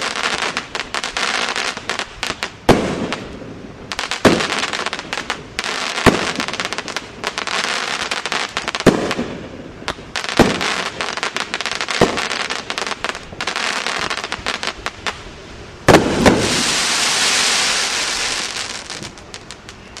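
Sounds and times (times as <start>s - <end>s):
crackling firework stars: 0.0s - 20.0s
firework bangs: 0.0s - 20.0s.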